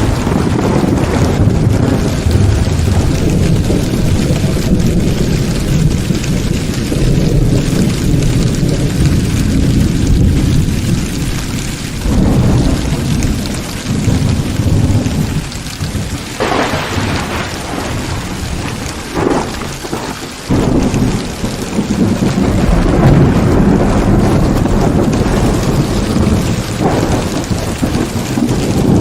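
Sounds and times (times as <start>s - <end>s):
deep rolling thunder: 0.0s - 29.0s
heavy rain: 0.0s - 29.0s.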